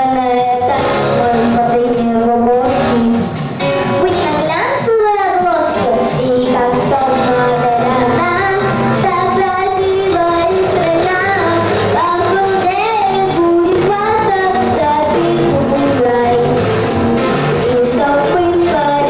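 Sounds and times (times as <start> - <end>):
girl singing pop song: 0.0 - 19.0
instrumental accompaniment: 0.0 - 19.0.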